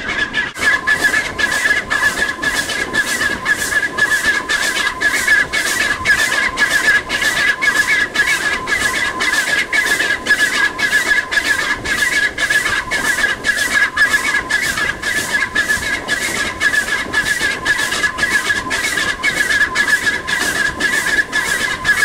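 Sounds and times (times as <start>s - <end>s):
continuous high-pitched squeal: 0.0s - 22.0s.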